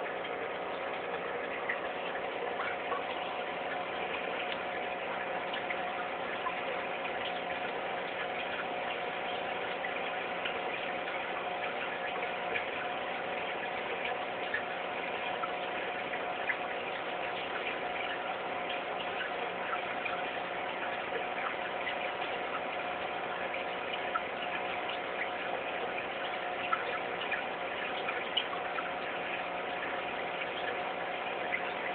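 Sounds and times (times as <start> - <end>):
aquarium pump humming: 0.0 - 31.9
water bubbling: 0.0 - 31.9.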